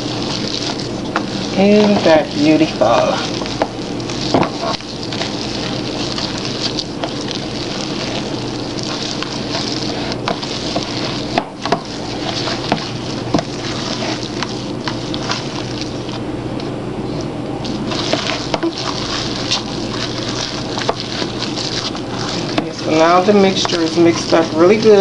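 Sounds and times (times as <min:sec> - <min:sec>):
spatula scraping thick batter: 0:00.0 - 0:16.2, 0:17.7 - 0:25.0.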